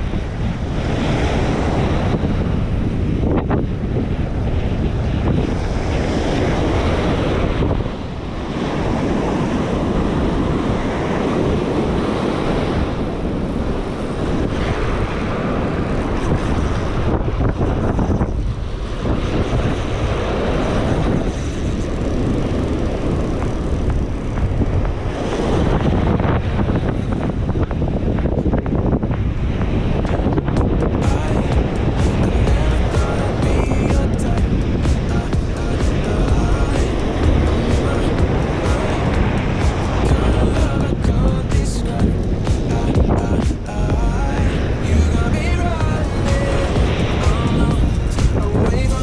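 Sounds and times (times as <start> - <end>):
surf washing: 0.0 - 49.0
wind buffeting microphone: 0.0 - 49.0.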